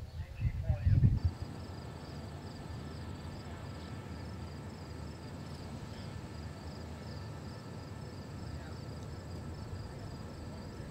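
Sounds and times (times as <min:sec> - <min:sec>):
insects chirping: 0:00.8 - 0:10.9.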